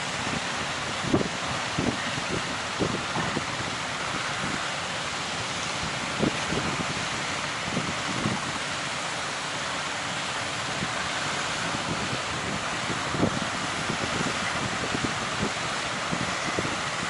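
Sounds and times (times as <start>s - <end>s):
wind buffeting microphone: 0.0s - 8.8s, 10.5s - 17.0s
surf rushing: 0.0s - 17.0s.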